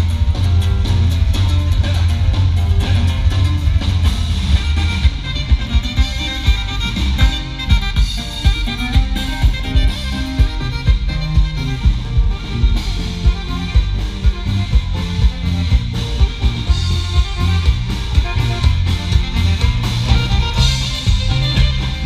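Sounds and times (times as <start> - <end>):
loud music with drums and bass: 0.0 - 22.0.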